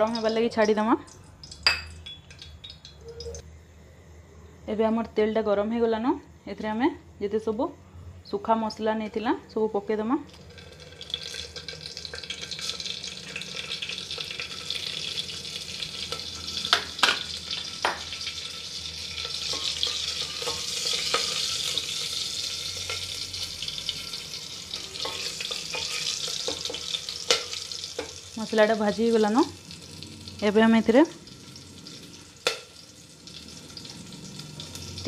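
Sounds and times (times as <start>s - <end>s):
spices sizzling in hot oil: 0.0s - 3.4s, 10.3s - 35.0s.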